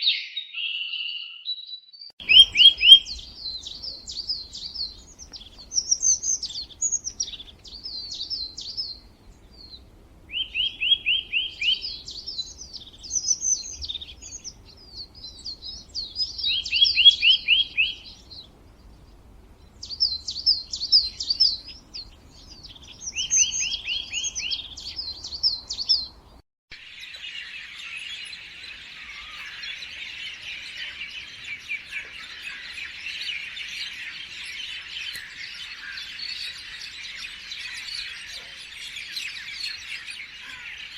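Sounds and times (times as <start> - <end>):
chorus of small birds chirping: 0.0 - 40.9
songbird chirps and trills: 0.0 - 40.9.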